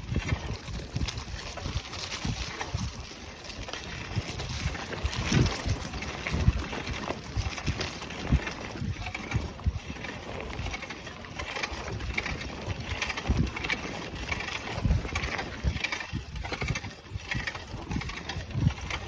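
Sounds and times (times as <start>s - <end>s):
bicycle tyre noise on trail: 0.0s - 19.0s
wind buffeting microphone: 0.0s - 19.0s.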